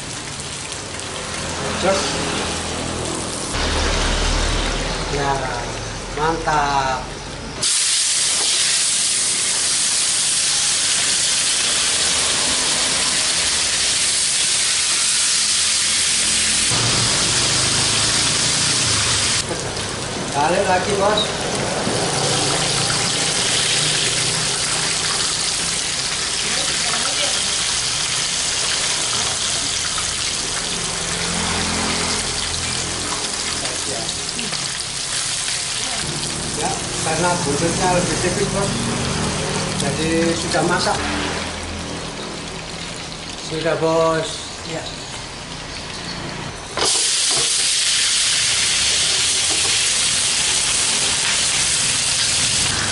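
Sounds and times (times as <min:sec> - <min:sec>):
fish deep-frying in sizzling oil: 0:00.0 - 0:52.9.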